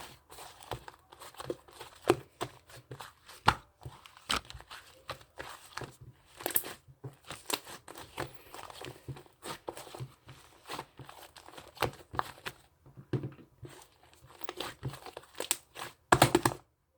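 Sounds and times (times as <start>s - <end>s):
crinkling and crackling: 0.0s - 16.0s.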